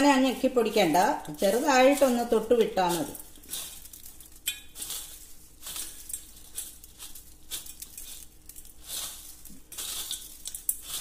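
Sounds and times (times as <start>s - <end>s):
crisp snack rustling and crackling: 0.2s - 11.0s.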